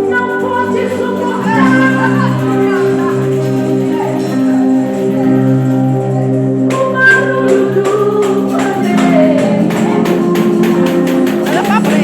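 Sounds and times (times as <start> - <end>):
percussion beat: 0.0 - 12.0
person singing: 0.0 - 12.0
sustained chords: 0.0 - 12.0.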